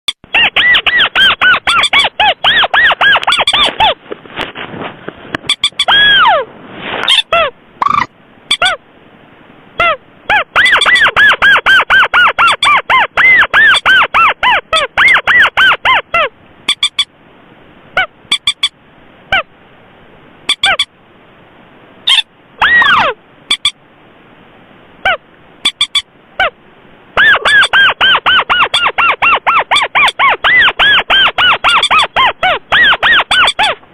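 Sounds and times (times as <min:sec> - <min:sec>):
recorded rail bird call: 0:00.1 - 0:04.0, 0:05.4 - 0:08.8, 0:09.8 - 0:17.2, 0:17.9 - 0:19.5, 0:20.4 - 0:21.0, 0:22.0 - 0:23.8, 0:25.0 - 0:33.9.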